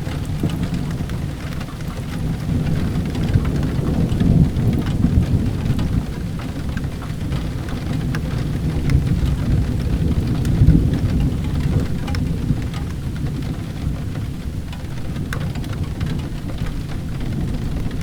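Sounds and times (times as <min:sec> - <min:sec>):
rolling thunder rumble: 0:00.0 - 0:18.0
steady rain: 0:00.0 - 0:18.0.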